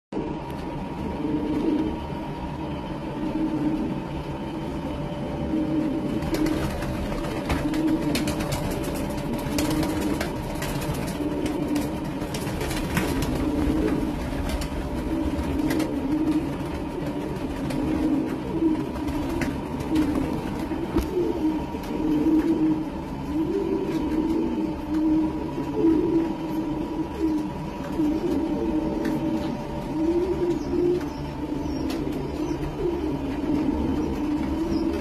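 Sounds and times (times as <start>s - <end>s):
pigeons cooing: 0.2s - 35.0s
wings flapping: 5.9s - 35.0s.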